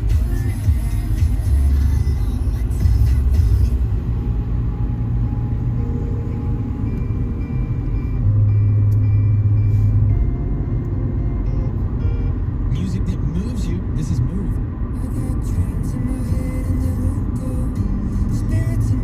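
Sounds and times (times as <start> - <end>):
car interior rumble: 0.0 - 19.0.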